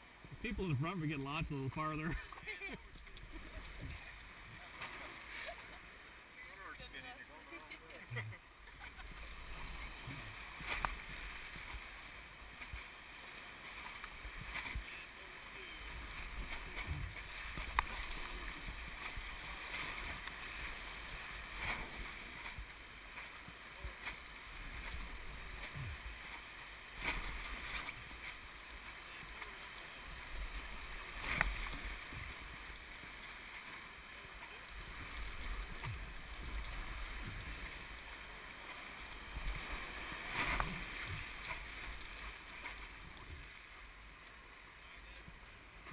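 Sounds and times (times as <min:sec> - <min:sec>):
low rumble of water: 0:00.0 - 0:45.9.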